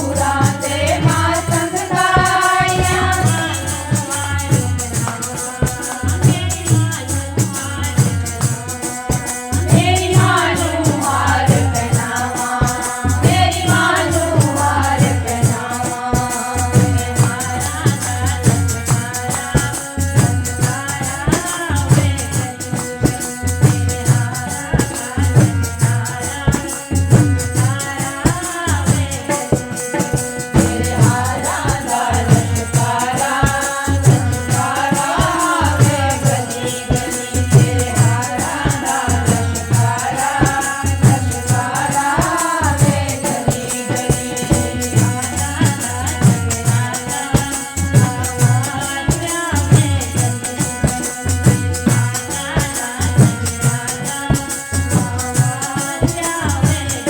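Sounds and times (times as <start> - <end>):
percussion beat: 0.0 - 57.0.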